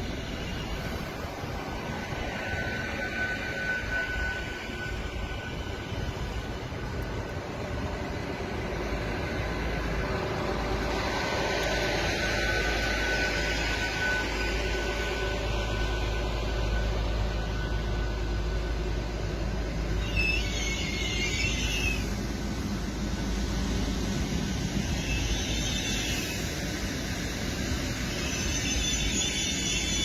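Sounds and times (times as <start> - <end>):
faint steady whine: 0.0 - 30.0
train rumbling past: 0.0 - 30.0.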